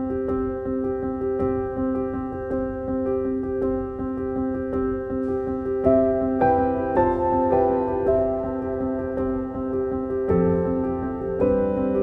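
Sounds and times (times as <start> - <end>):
slow sustained background music: 0.0 - 12.0.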